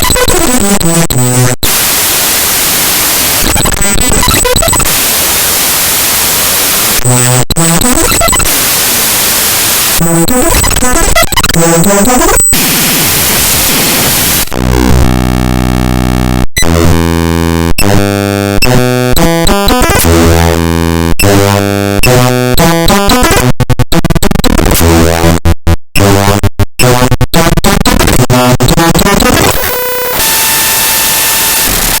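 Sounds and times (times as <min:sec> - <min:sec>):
harsh digital buzzing noise: 0:00.0 - 0:22.0, 0:27.9 - 0:32.0.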